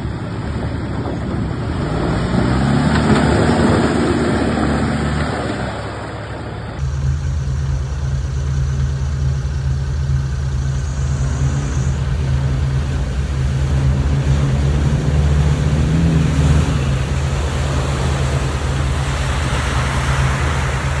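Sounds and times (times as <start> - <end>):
car engine running: 0.0 - 21.0
water rushing from wheels: 0.0 - 21.0.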